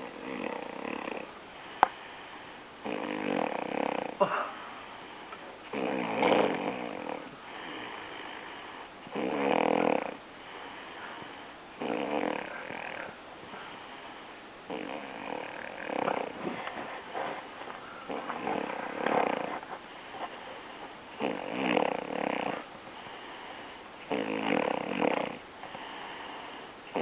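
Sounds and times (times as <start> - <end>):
rhythmic snoring: 0.0 - 27.0.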